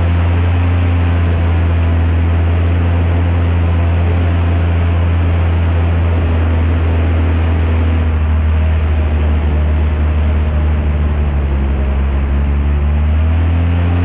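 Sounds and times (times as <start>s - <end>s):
airboat engine and propeller running: 0.0s - 14.0s.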